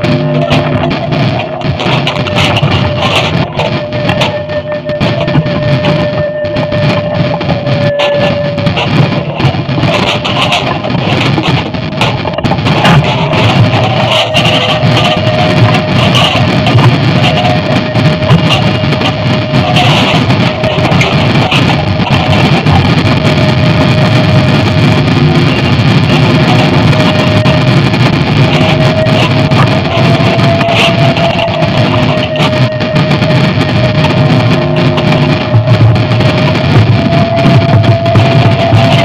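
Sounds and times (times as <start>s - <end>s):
electronic noise drone: 0.0s - 39.0s
steady held tone: 0.0s - 39.0s.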